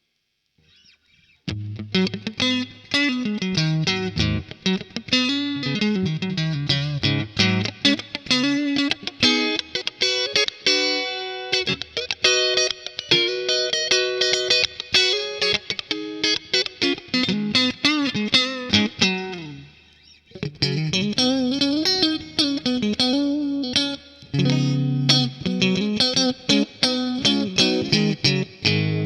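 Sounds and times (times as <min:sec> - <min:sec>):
electric guitar lead line: 0:01.5 - 0:29.0.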